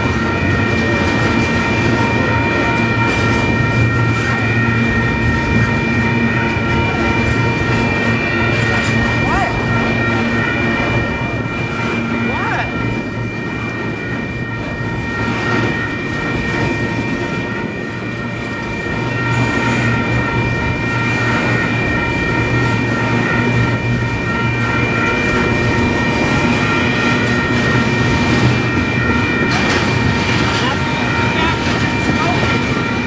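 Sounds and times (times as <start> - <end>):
high ringing tones: 0.0 - 33.0
steel wheels rumbling on rail: 0.0 - 33.0.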